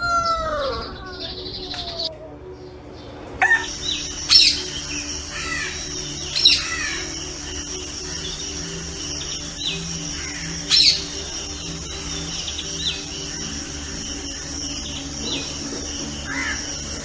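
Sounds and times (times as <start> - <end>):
harsh bird calls: 0.0 - 17.0.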